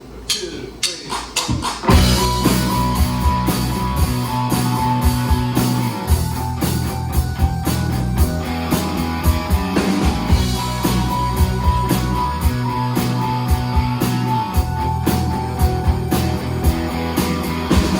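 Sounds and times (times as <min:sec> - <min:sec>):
drum beat: 0:00.3 - 0:17.9
bass guitar: 0:01.8 - 0:17.9
electric guitar: 0:01.8 - 0:17.9
held synth notes: 0:01.9 - 0:17.9.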